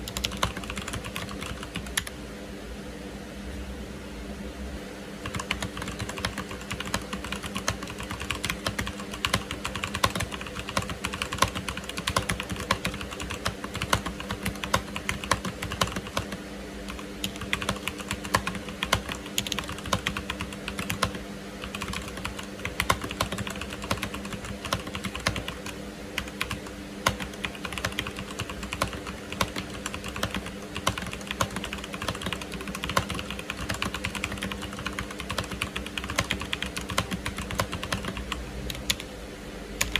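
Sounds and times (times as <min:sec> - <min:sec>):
mechanical keyboard typing: 0:00.0 - 0:02.1, 0:05.2 - 0:39.1.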